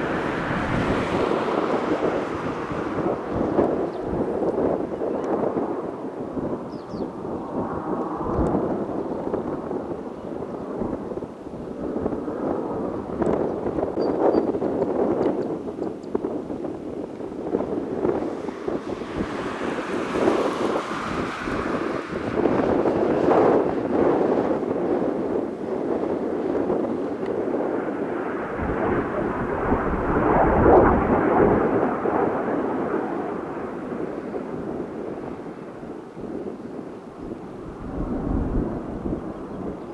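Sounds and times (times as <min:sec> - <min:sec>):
jet roar: 0:00.0 - 0:14.0, 0:16.1 - 0:39.9.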